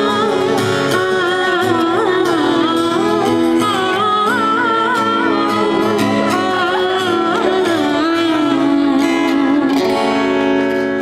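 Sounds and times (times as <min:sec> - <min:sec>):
person singing: 0:00.0 - 0:10.2
acoustic guitar: 0:00.0 - 0:11.0.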